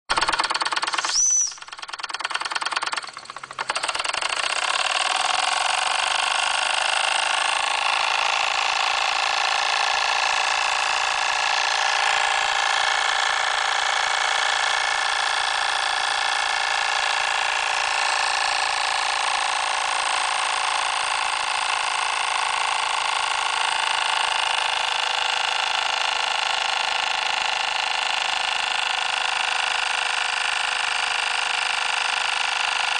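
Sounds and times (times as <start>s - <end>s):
model steam engine running: 1.7s - 32.9s.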